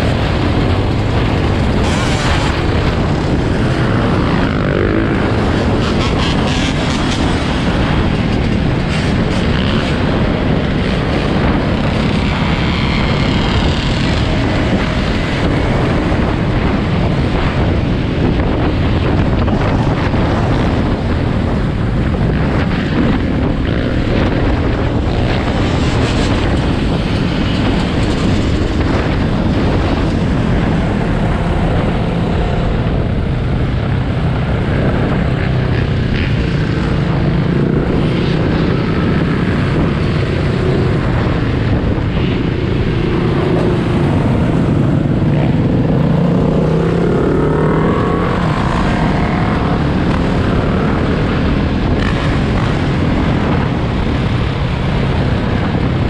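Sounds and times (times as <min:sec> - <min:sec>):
quad and dirt bike engines revving: 0:00.0 - 0:56.0
wind noise on microphone: 0:00.0 - 0:56.0.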